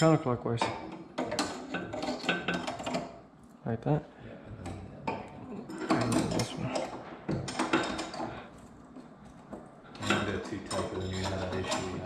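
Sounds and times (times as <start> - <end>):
metal knocking and scraping: 0.0 - 3.2, 4.6 - 12.0.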